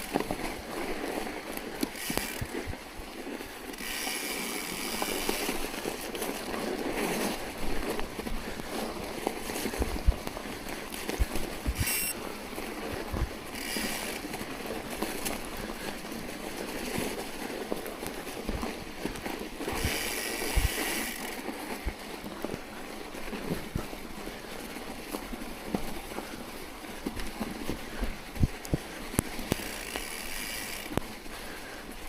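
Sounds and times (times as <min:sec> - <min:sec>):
bicycle tyres rushing through snow: 0:00.0 - 0:32.0.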